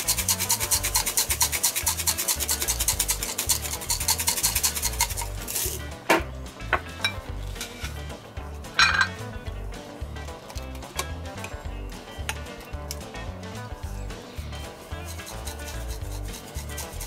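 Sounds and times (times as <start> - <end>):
spice grinder grinding: 0.0 - 6.1, 6.8 - 17.0.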